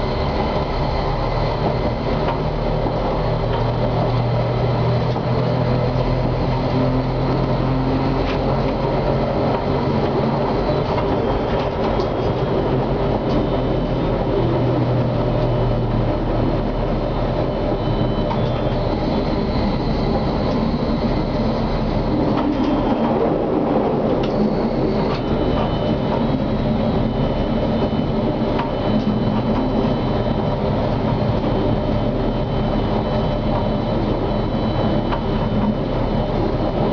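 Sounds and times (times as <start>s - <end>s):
tram motors and wheels rumbling: 0.0s - 36.9s.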